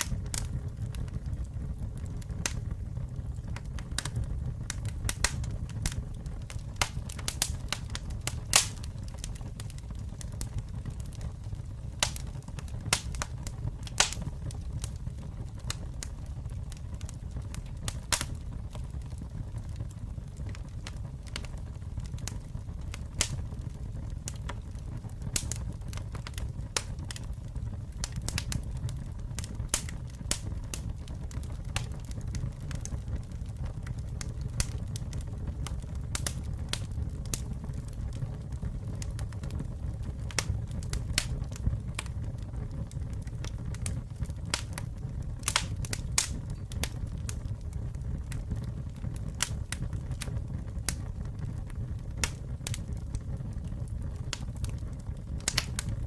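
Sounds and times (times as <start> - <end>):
campfire burning and crackling: 0.0 - 56.0.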